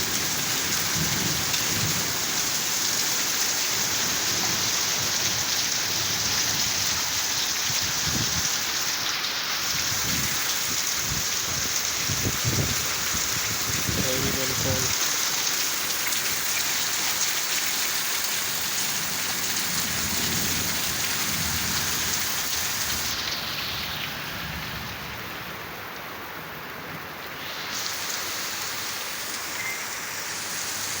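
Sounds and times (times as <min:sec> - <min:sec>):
heavy rain falling: 0:00.0 - 0:31.0.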